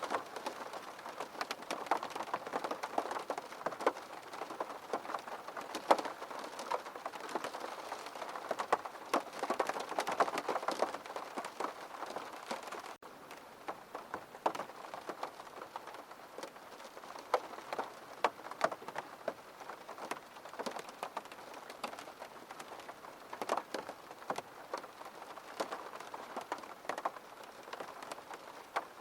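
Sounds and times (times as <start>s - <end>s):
rain patter on a window: 0.0s - 29.0s.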